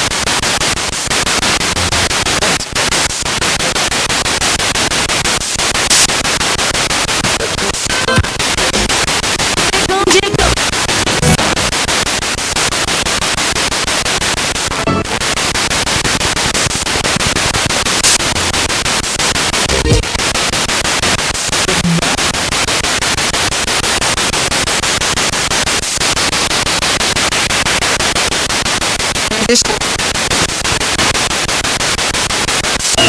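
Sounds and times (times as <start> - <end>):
pulsing radio static: 0.0 - 33.0
snatches of broadcast sound: 0.0 - 33.0.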